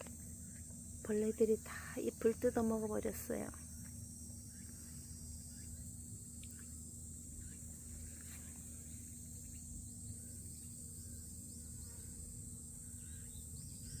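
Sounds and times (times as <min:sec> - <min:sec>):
crickets and cicadas chirping: 0:00.0 - 0:14.0.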